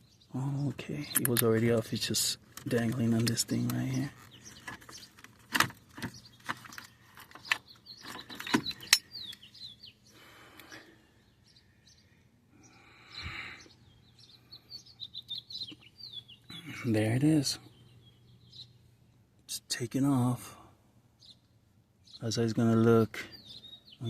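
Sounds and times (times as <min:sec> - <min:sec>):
bird chirping: 0:00.0 - 0:20.4, 0:21.1 - 0:24.0.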